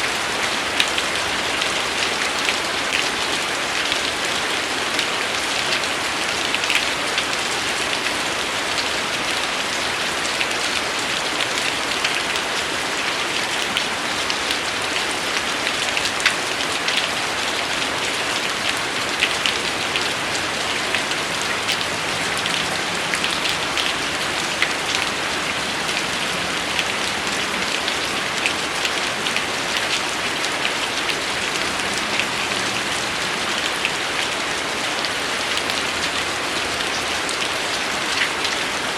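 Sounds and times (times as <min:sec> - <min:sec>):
raindrops ticking on a surface: 0:00.0 - 0:38.9
steady rain falling: 0:00.0 - 0:38.9.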